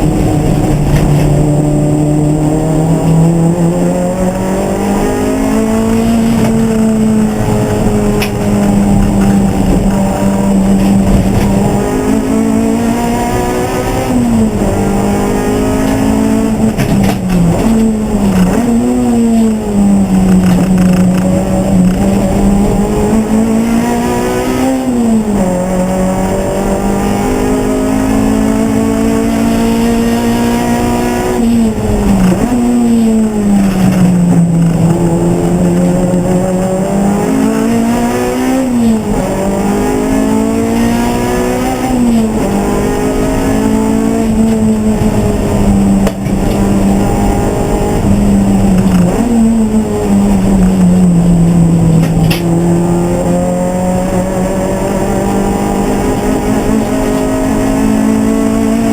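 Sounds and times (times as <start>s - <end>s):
race car engine revving: 0.0s - 58.9s.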